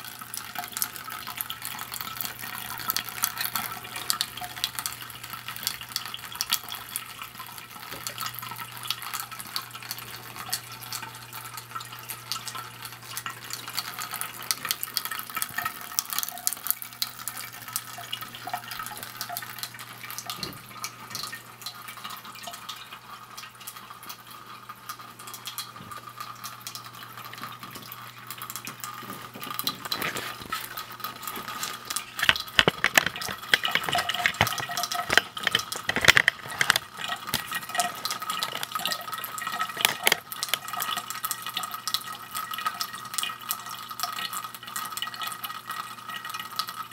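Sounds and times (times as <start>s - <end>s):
water trickling into basin: 0.0s - 46.9s.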